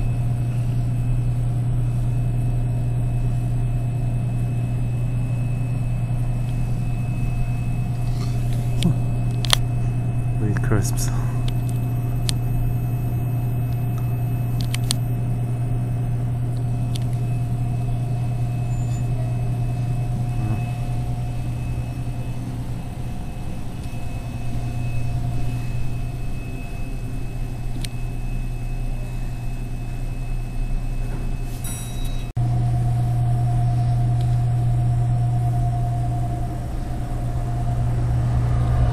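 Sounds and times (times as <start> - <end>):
faint high whine: 0.0 - 38.9
vending machines humming: 0.0 - 38.9.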